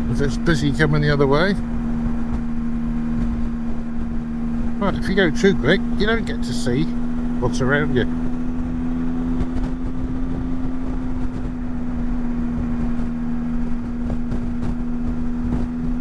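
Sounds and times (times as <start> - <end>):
motorcycle engine hum: 0.0 - 16.0
road and wind noise: 0.0 - 16.0.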